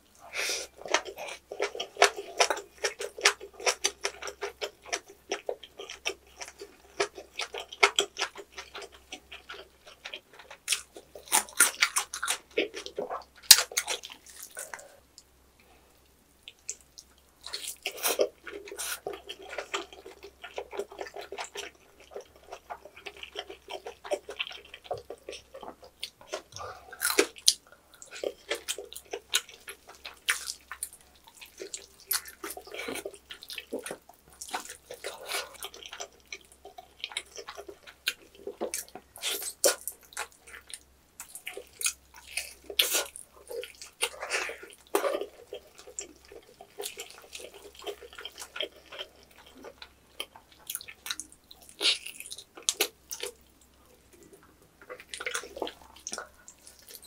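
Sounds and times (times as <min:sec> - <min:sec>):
wet chewing and smacking: 0:00.7 - 0:15.3, 0:16.4 - 0:57.0.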